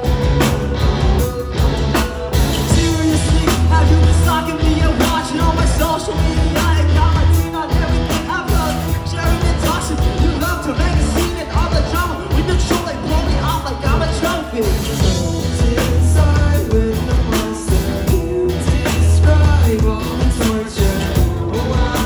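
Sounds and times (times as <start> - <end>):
amplified electric guitars: 0.0 - 22.0
drum kit: 0.0 - 22.0.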